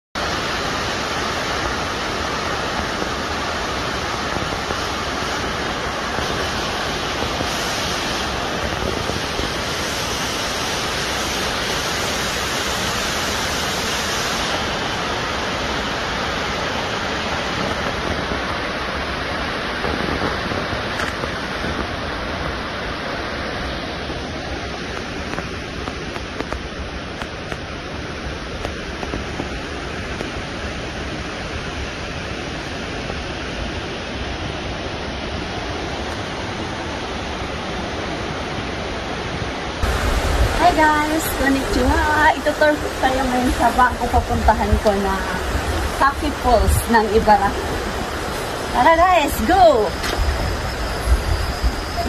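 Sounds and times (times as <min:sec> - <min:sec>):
waterfall rushing: 0:00.2 - 0:52.0.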